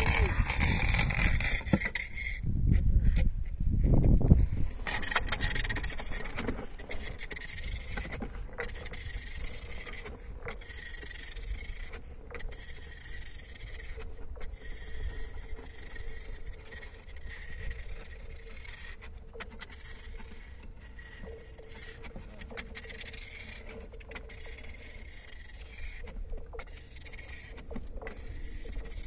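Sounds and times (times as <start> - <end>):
runners scraping over ice: 0.0 - 29.0.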